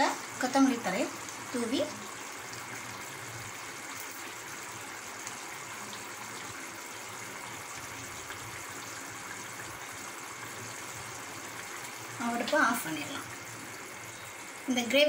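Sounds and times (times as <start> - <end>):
gravy bubbling in a pan: 0.0 - 15.0.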